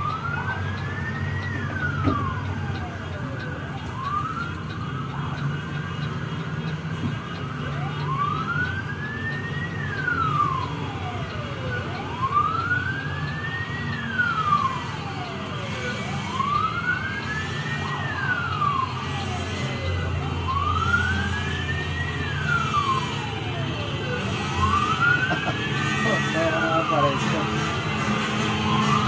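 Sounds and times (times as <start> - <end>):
low rumble of vehicle engines: 0.0 - 29.0
siren wailing: 0.0 - 29.0.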